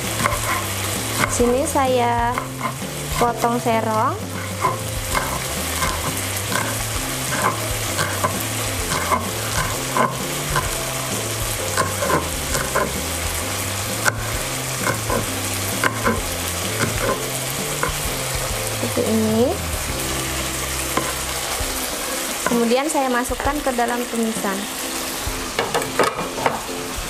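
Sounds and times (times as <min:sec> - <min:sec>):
shrimp sizzling in pan: 0:00.0 - 0:27.0.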